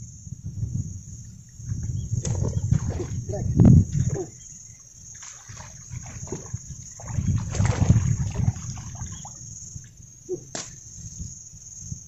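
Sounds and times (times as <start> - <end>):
high-pitched insect drone: 0.0 - 12.0
wind buffeting microphone: 0.0 - 12.0.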